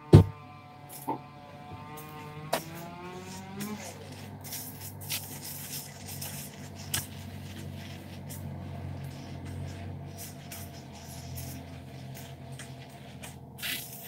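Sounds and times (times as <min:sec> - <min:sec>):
steady low hum: 0:00.0 - 0:14.0
wet rubbing and squishing of lather: 0:02.6 - 0:14.0.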